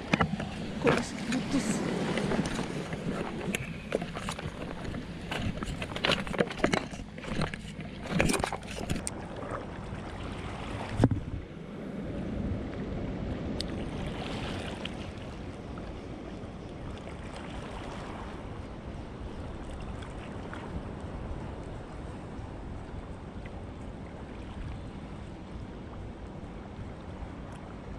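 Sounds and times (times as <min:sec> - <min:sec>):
wind and sea water rushing: 0:00.0 - 0:27.9.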